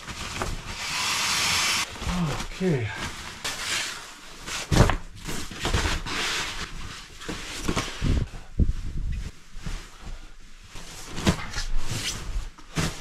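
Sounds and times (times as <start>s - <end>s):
fabric rustling: 1.9s - 13.0s.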